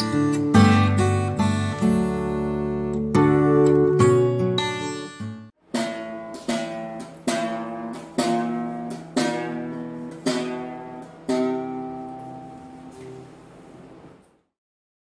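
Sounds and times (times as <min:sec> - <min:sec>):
acoustic guitar strummed chords: 0:00.0 - 0:14.2.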